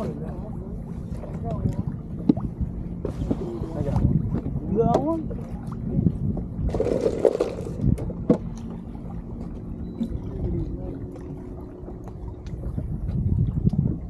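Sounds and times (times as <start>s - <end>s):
water noise around boat: 0.0s - 14.0s
wind: 0.0s - 14.0s.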